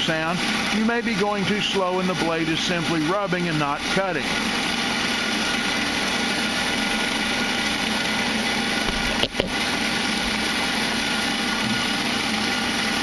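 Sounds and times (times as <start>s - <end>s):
band saw cutting steel: 0.0s - 13.0s.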